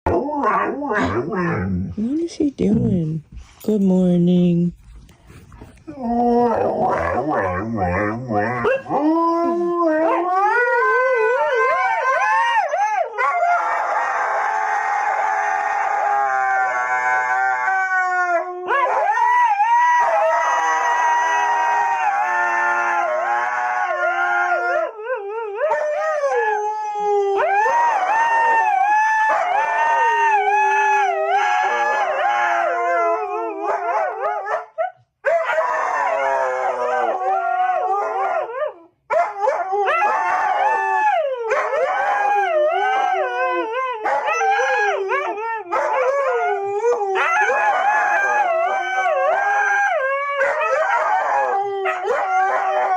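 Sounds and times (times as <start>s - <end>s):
dog howling and whining: 0.0s - 2.0s, 5.6s - 52.9s.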